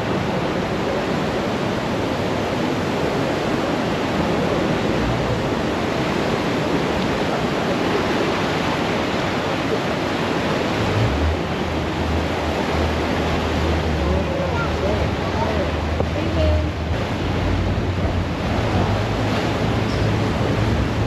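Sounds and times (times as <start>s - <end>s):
rushing tidal rapids: 0.0s - 21.0s.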